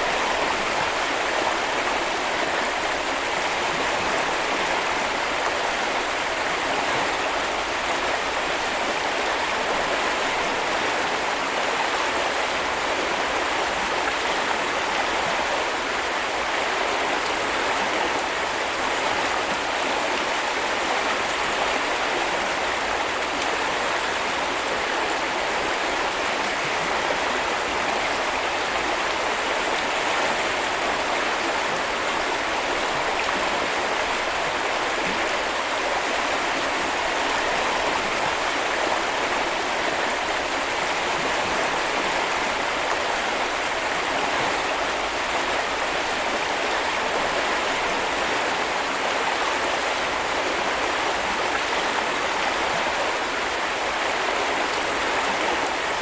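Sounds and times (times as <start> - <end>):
river water babbling over stones: 0.0 - 56.0.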